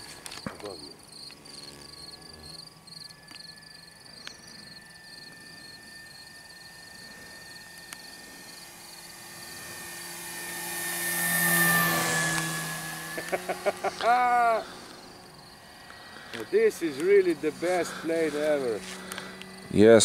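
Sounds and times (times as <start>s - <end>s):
insects chirping: 0.0s - 20.0s
model plane motor whine: 0.0s - 20.0s.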